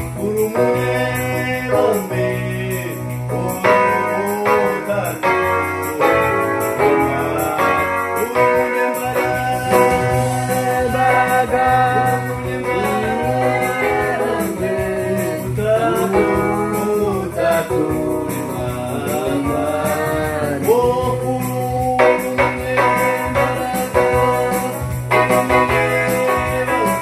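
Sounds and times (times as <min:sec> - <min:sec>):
electronic keyboard chords: 0:00.0 - 0:27.0
man singing devotional song: 0:00.0 - 0:27.0.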